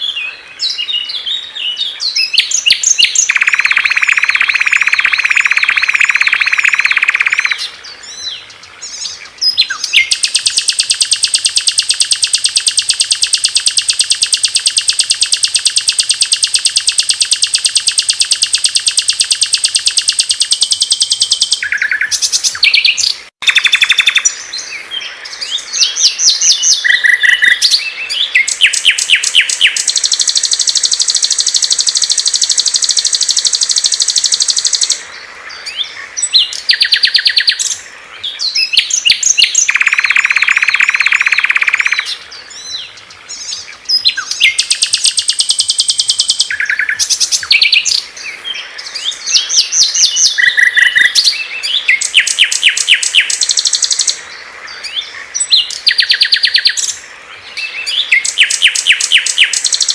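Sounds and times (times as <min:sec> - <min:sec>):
songbird trills and chirps: 0:00.0 - 0:59.9.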